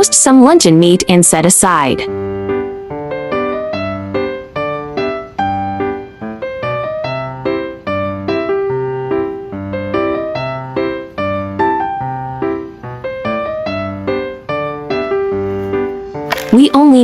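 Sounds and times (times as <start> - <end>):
piano chords melody: 0.0 - 17.0.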